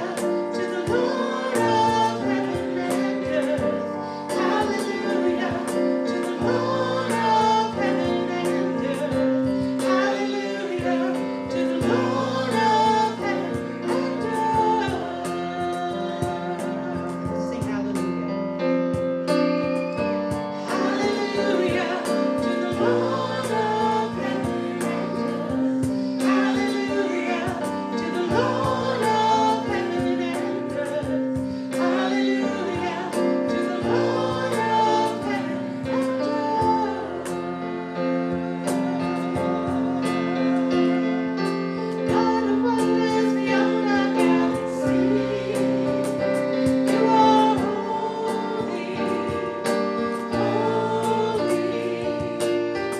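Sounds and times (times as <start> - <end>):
sustained instrumental accompaniment: 0.0 - 52.9
worship singing: 0.0 - 52.9.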